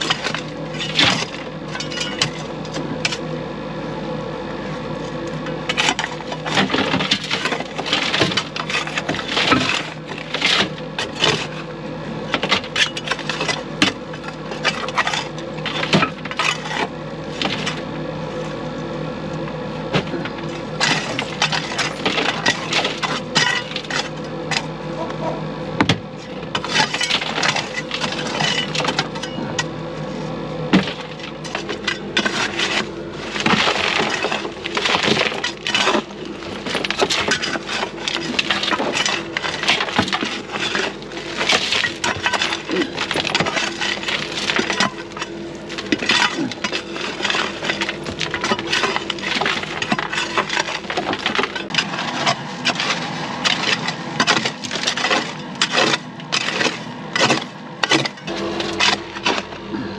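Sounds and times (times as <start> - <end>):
rocks clattering into metal bucket: 0.0 - 3.2, 5.7 - 11.6, 12.3 - 17.9, 19.9 - 24.7, 25.8 - 29.7, 30.7 - 59.6
steady hum: 0.0 - 59.9.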